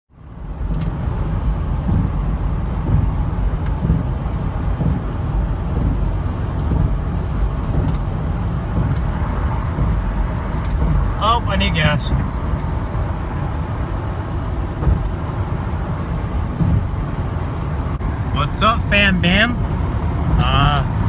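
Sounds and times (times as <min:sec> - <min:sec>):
car engine and road noise: 0:00.1 - 0:21.0.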